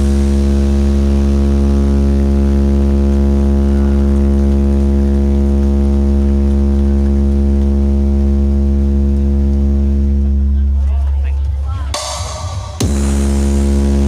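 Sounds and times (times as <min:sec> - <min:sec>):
deep bass drone: 0:00.0 - 0:14.0.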